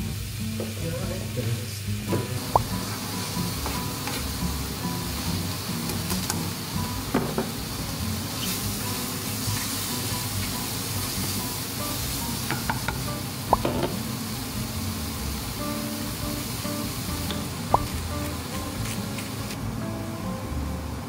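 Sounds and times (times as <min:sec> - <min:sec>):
food sizzling in a frying pan: 0:00.0 - 0:19.7.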